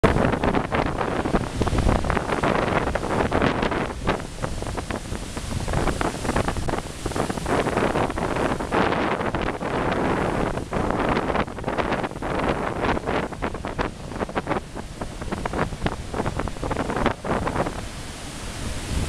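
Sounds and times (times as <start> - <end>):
surf breaking over rocks: 0.0 - 19.0
wind buffeting microphone: 0.0 - 19.0.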